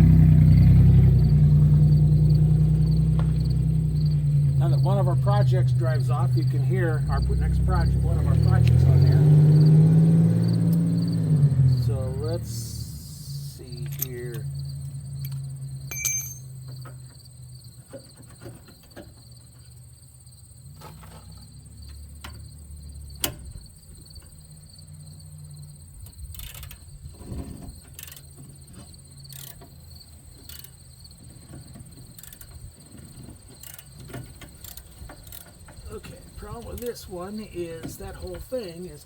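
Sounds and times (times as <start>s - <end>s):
insects trilling: 0.6s - 15.9s, 16.5s - 39.0s.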